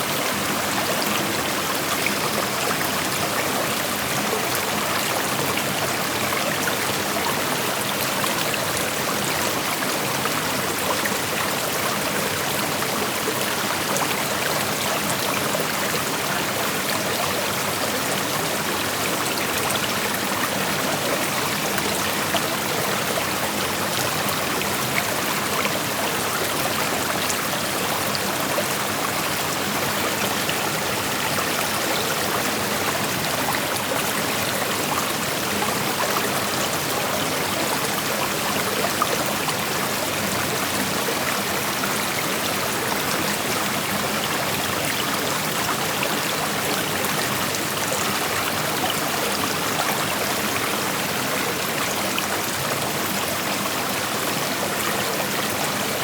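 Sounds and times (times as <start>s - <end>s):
creek water rushing over rocks: 0.0s - 56.0s.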